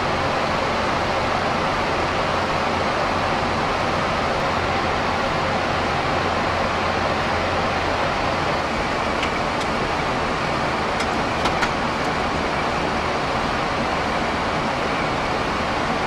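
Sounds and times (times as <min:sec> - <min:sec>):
air-conditioning hiss: 0:00.0 - 0:16.0.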